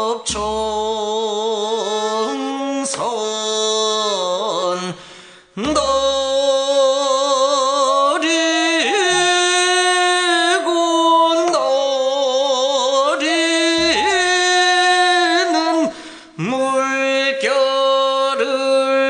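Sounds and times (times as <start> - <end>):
man singing with wavering vibrato: 0.0 - 19.0.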